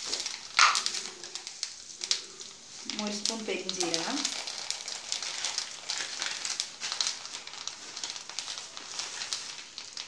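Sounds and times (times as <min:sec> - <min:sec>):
seeds sizzling and crackling in oil: 0:00.0 - 0:10.0.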